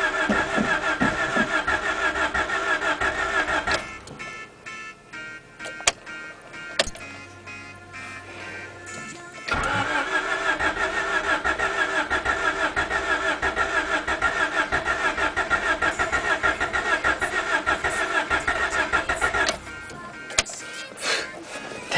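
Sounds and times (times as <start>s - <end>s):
engine cranking on starter motor: 0.0s - 4.4s, 8.5s - 21.9s.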